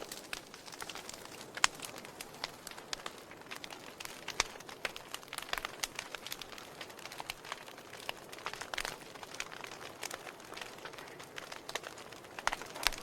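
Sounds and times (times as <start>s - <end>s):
soft steady hiss: 0.0s - 13.0s
wood fire crackling and popping: 0.0s - 13.0s.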